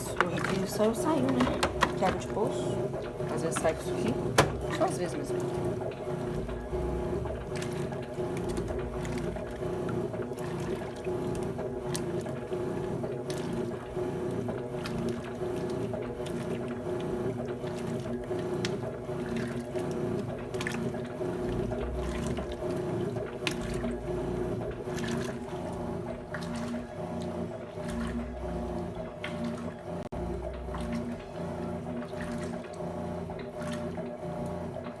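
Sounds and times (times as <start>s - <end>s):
washing machine motor hum: 0.0s - 35.0s
water sloshing: 0.0s - 35.0s.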